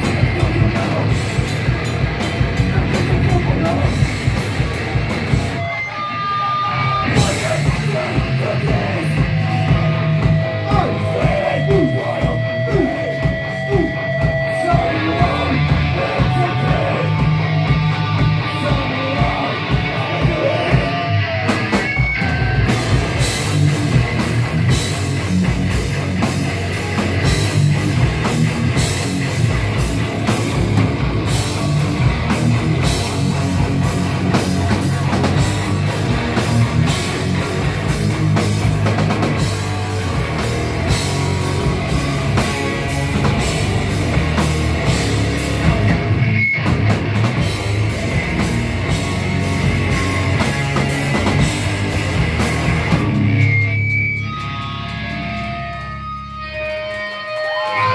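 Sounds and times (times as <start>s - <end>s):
drum kit with cymbals: 0.0s - 55.2s
bass guitar: 0.0s - 57.9s
distorted electric guitars: 0.0s - 57.9s.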